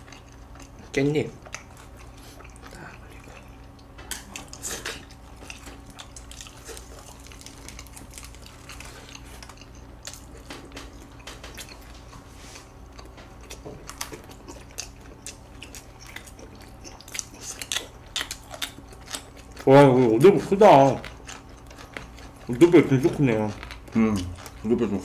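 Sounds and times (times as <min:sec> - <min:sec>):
close-miked chewing: 0:00.0 - 0:25.0.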